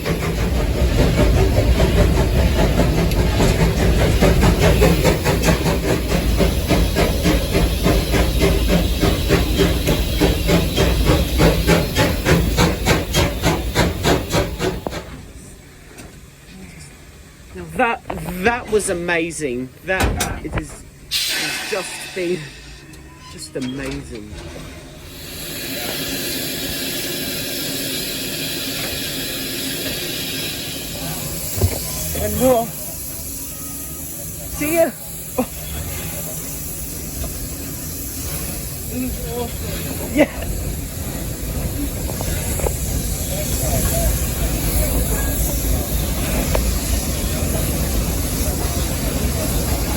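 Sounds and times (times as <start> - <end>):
hissing steam: 0.0 - 15.3, 21.1 - 22.8, 24.9 - 49.9
steam locomotive exhaust beats: 0.0 - 16.5, 24.8 - 49.9.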